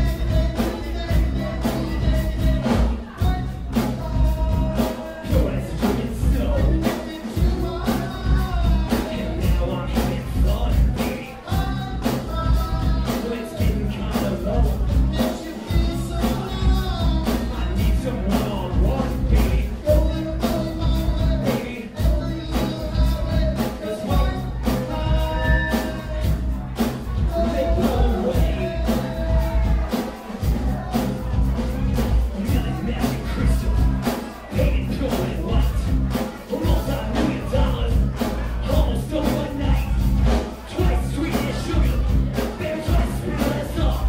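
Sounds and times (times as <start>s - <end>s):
live rock band playing: 0.0s - 44.0s
person singing into microphone: 0.0s - 44.0s.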